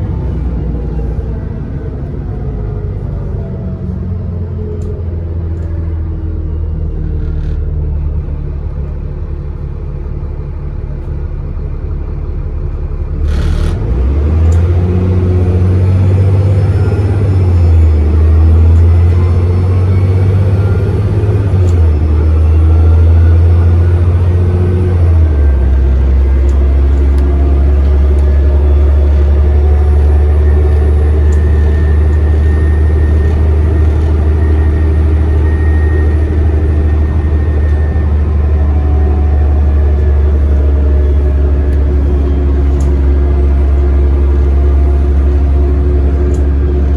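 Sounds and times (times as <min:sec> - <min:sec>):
bus diesel engine accelerating: 0:00.0 - 0:46.9.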